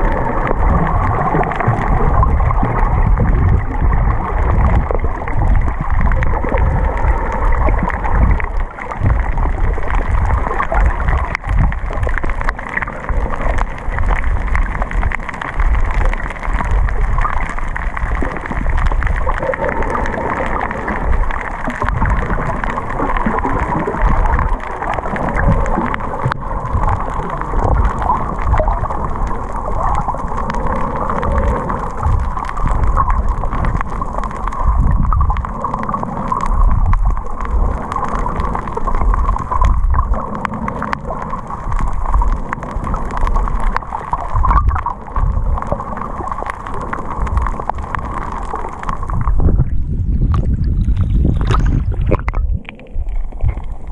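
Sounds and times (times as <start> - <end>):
steady underwater hum: 0.0 - 53.9
underwater rumbles of moving water: 0.0 - 53.9.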